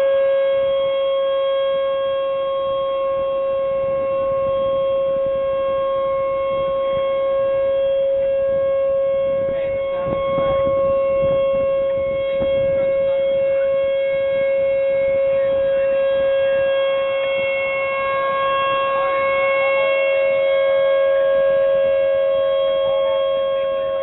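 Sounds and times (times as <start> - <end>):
higher-pitched siren tone: 0.0 - 24.0
warning siren steady tone: 0.0 - 24.0.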